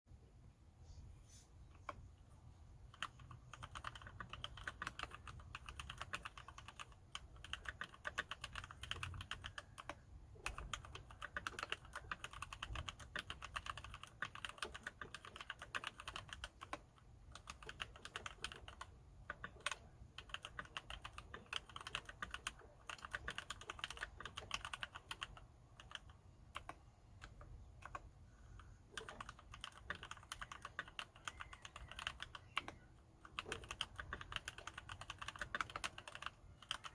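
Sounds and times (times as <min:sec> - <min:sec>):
typing on mechanical keyboard: 0:02.8 - 0:36.9.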